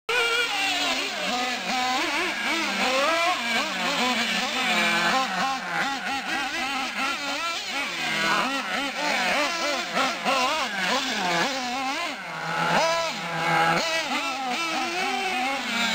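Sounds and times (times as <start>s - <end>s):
small nitro engines revving: 0.1s - 15.9s.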